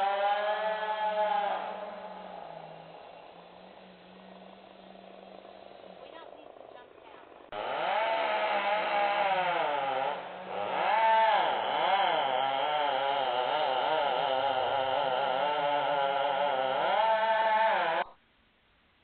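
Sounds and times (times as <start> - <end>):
small gasoline engine revving: 0.0 - 18.0.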